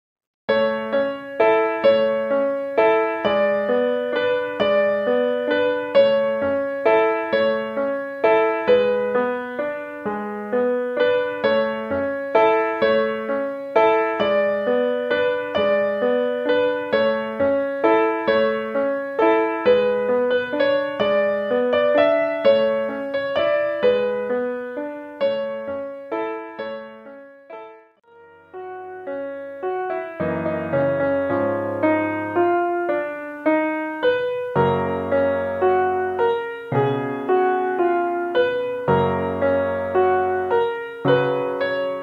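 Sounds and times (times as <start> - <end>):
piano music: 0.5 - 42.0.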